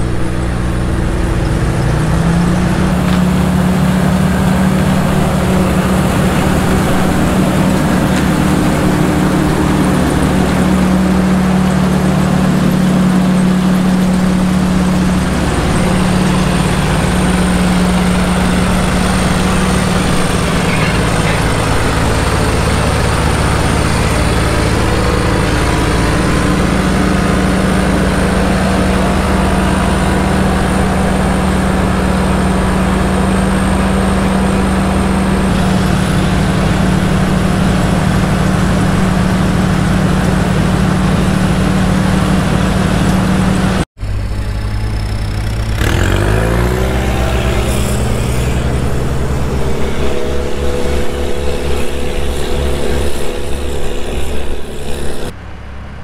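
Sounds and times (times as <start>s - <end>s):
harvest machine engine and conveyor: 0.0s - 56.0s
quieter engine: 0.0s - 56.0s.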